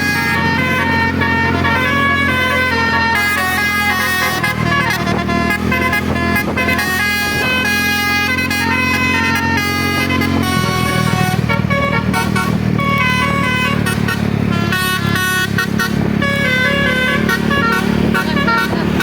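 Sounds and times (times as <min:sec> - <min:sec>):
bus engine rumble: 0:00.0 - 0:19.0
bus horn playing melody: 0:00.0 - 0:19.0.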